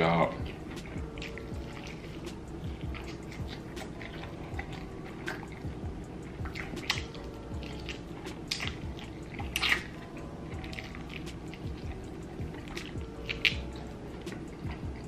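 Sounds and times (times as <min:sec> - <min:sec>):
wet chewing and lip smacking: 0:00.2 - 0:15.0.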